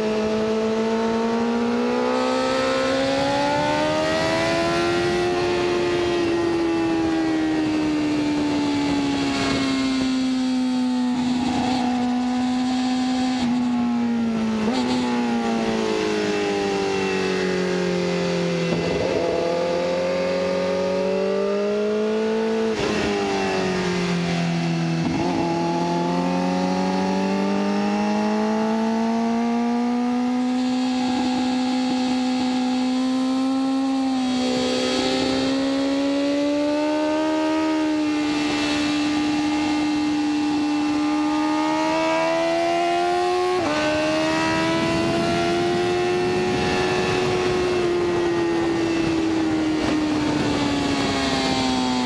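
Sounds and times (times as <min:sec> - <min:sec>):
motorcycle engine revving: 0:00.0 - 0:52.0
wind noise: 0:00.0 - 0:52.0.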